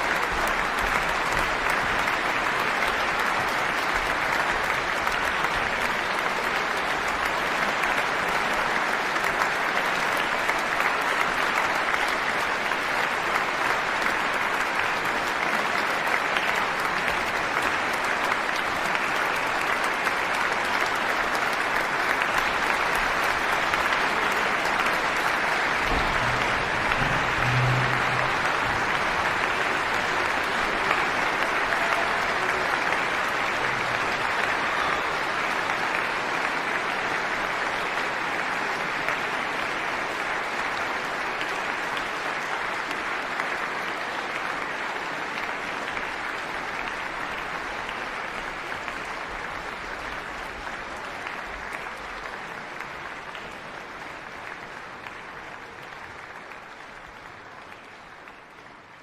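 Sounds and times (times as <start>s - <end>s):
audience applauding: 0.0s - 59.0s.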